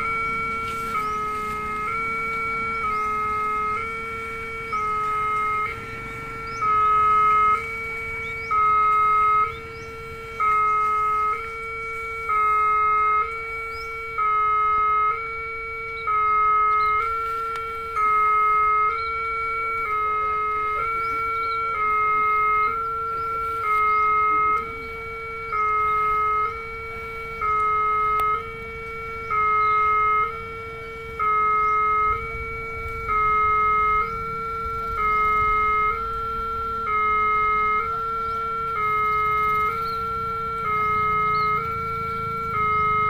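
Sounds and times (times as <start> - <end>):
two-tone electronic crossing alarm: 0.0 - 43.0.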